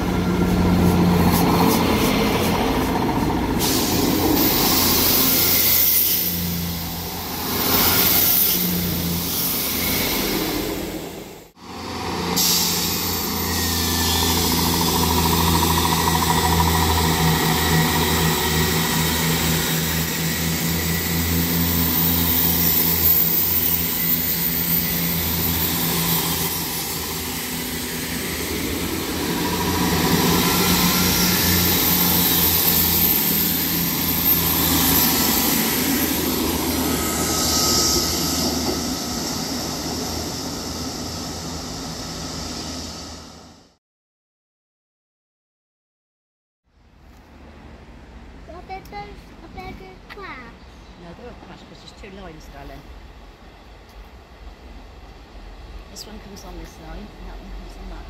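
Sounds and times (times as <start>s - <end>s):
diesel train engines droning: 0.0s - 43.8s, 47.3s - 58.0s.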